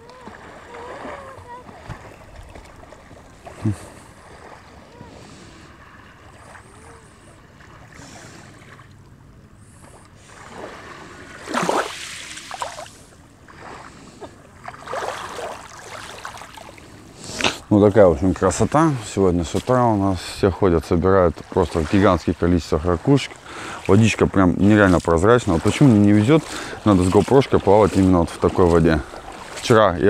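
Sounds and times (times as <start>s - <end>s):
small waves lapping on shore: 0.0s - 30.0s.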